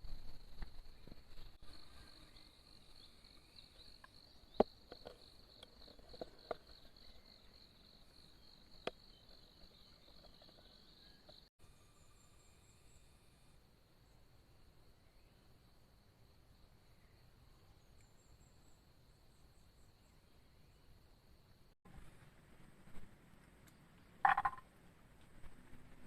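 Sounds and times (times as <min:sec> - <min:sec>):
crickets chirping: 0:00.0 - 0:21.8.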